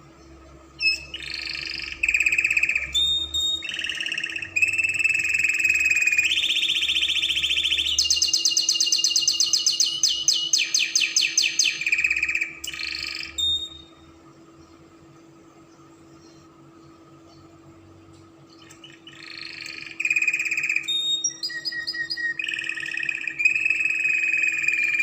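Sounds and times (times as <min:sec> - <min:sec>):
canary singing rolling trills: 0:00.0 - 0:25.0.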